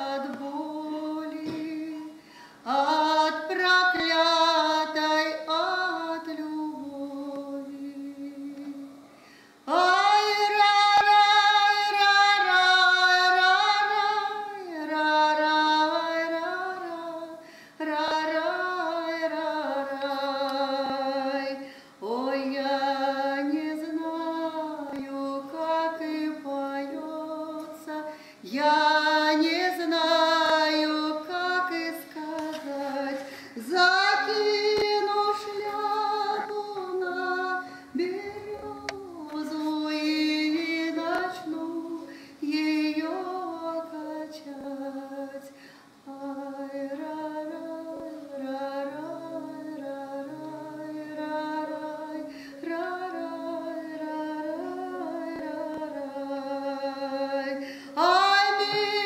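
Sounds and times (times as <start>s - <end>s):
woman singing: 0.0s - 9.0s, 9.6s - 59.0s.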